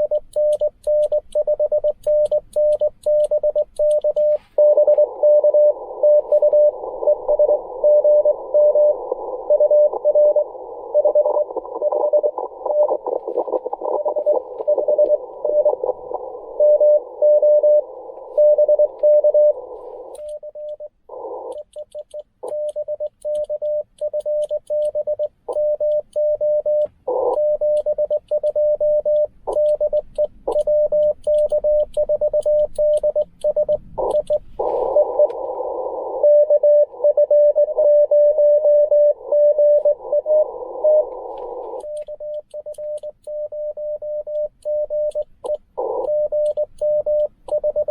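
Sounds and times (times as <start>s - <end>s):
morse code tones: 0.0s - 47.9s
receiver hiss: 0.0s - 47.9s.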